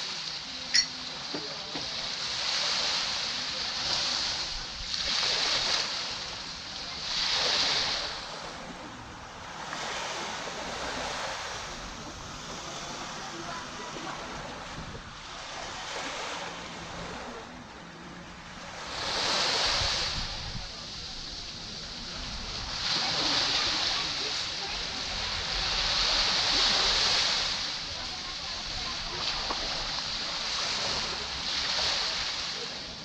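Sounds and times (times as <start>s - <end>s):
small waves on sandy beach: 0.0s - 33.0s.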